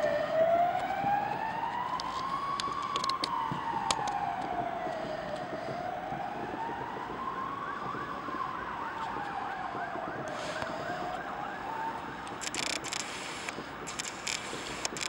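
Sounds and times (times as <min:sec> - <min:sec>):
siren fast warble: 0:00.0 - 0:12.3
siren slow wail: 0:00.0 - 0:14.4.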